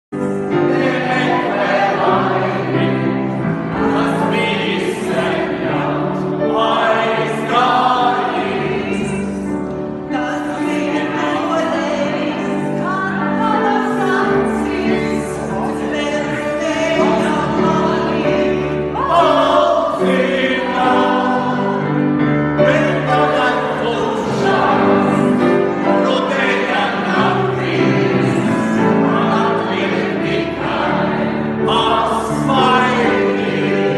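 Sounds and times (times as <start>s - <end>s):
choir singing held chords: 0.2s - 33.9s.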